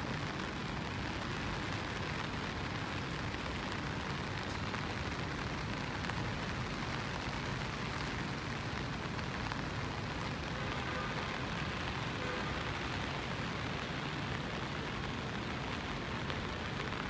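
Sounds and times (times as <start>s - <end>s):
rain drop ticks: 0.0s - 17.0s
steady rain hiss: 0.0s - 17.0s.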